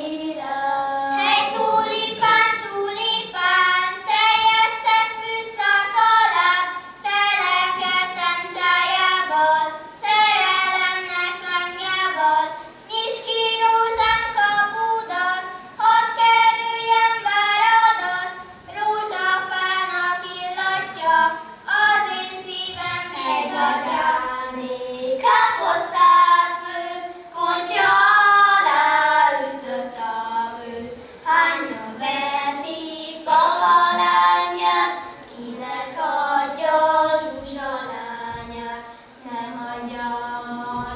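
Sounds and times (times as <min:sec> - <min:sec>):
children singing: 0:00.0 - 0:40.9.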